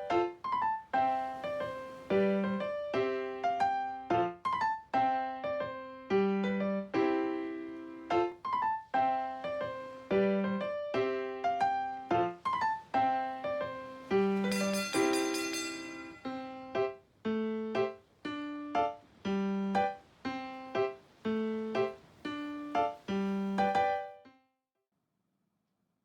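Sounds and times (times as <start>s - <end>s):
light piano tune: 0.0s - 24.4s.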